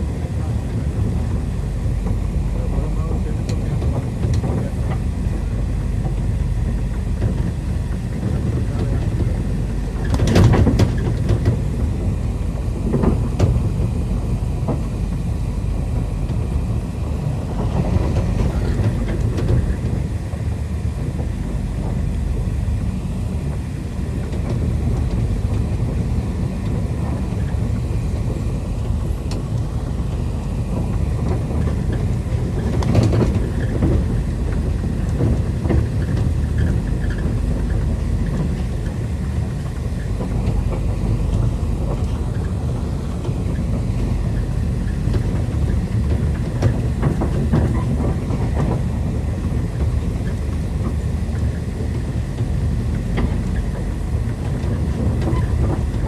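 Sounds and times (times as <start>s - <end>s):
train knocks: 0.0s - 56.0s
train rumbling on rails: 0.0s - 56.0s.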